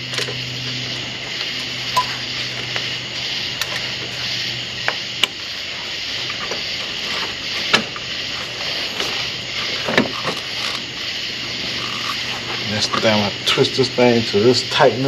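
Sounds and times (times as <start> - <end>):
low hum: 0.0 - 14.7
steady background hiss: 0.0 - 15.0.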